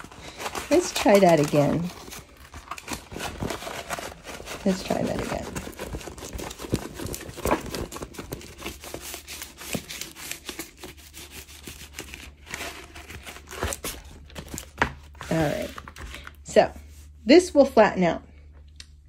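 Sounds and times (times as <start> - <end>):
canvas and film crinkling: 0.0 - 17.1.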